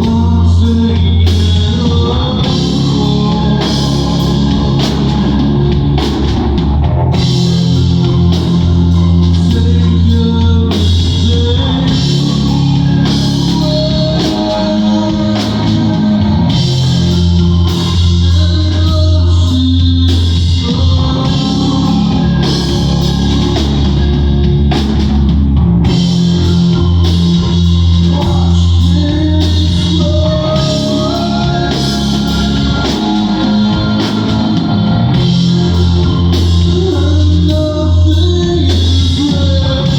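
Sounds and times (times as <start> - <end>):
heavy sustained bass notes: 0.0 - 39.9
live rock band playing: 0.0 - 39.9.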